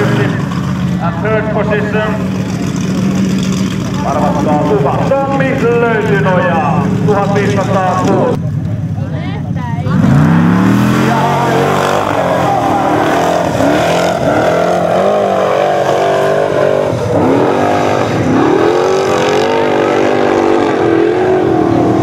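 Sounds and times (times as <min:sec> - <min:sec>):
offroad car engine revving hard: 0:00.0 - 0:08.4, 0:09.8 - 0:22.0.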